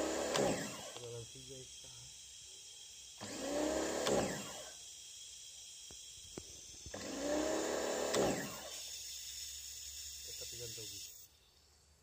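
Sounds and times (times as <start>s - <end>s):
pump motor spinning up and down: 0.0s - 12.0s.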